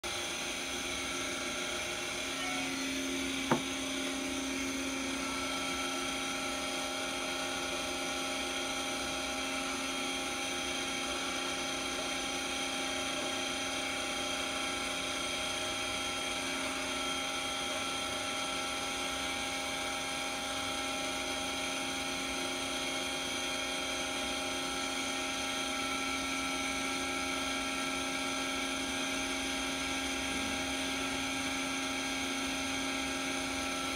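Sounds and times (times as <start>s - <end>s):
boring mill whine: 0.0s - 33.9s.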